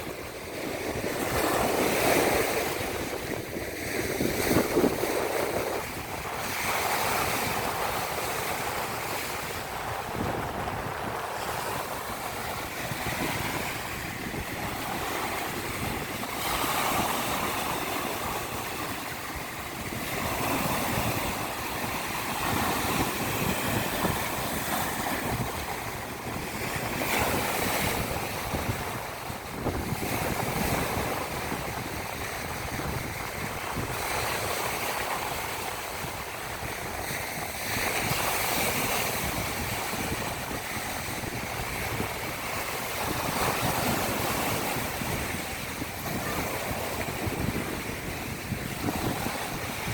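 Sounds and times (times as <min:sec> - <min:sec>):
surf washing onto beach: 0:00.0 - 0:49.9
wind: 0:00.0 - 0:49.9.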